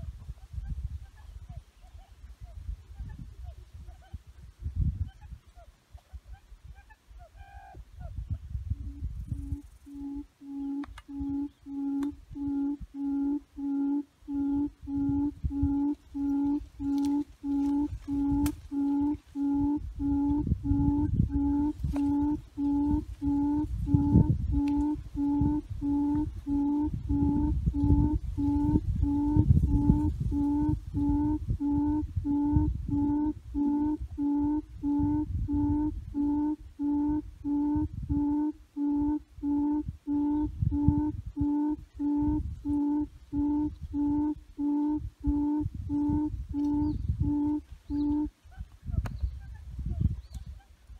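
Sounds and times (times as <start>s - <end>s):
low wind rumble on microphone: 0.0s - 50.9s
low hooting bird call: 6.4s - 50.7s.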